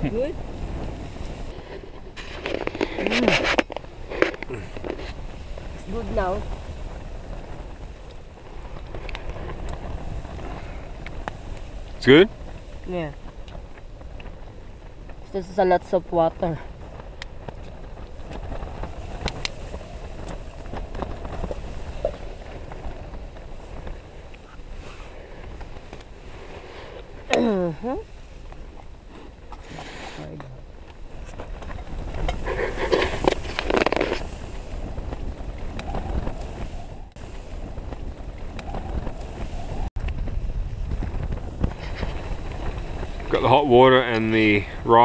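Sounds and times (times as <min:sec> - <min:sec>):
wind buffeting tent: 0:00.0 - 0:45.0.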